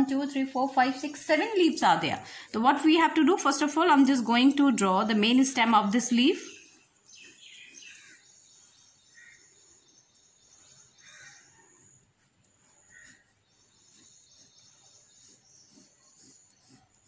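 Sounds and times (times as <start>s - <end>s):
pencil scratching on paper: 0.0s - 8.9s, 10.9s - 17.0s.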